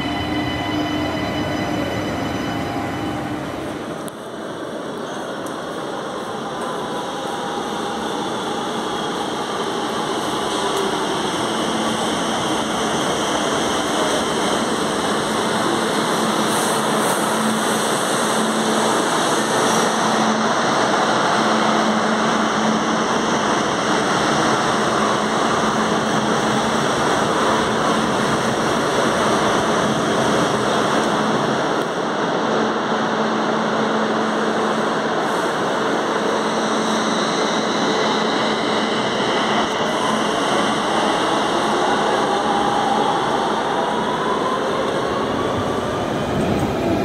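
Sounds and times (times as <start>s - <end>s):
metro train rumble: 0.0s - 47.0s.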